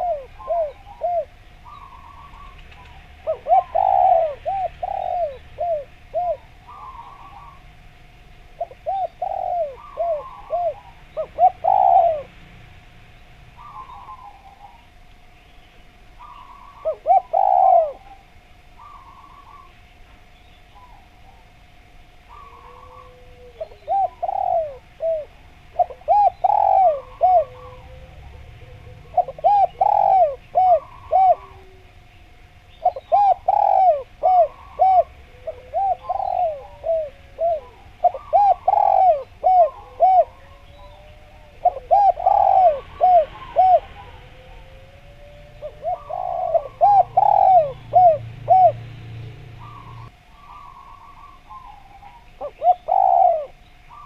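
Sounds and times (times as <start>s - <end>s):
dove cooing: 0.0s - 12.4s, 13.5s - 15.0s, 16.1s - 19.8s, 20.7s - 54.0s.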